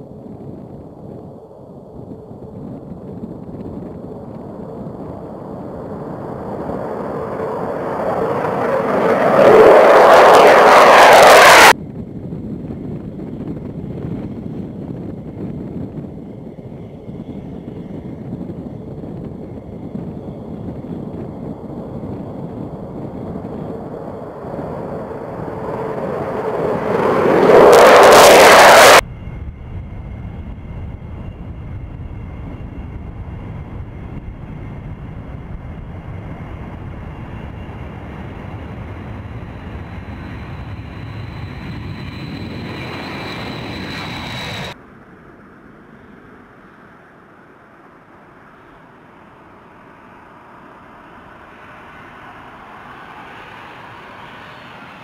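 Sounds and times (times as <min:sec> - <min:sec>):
jet engines whining steadily: 0:00.0 - 0:55.0
jet passing at takeoff power: 0:00.0 - 0:55.0.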